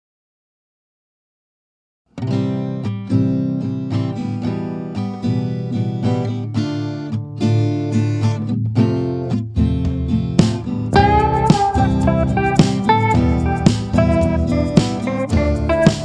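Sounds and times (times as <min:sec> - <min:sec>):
acoustic guitar chords: 0:02.1 - 0:16.0.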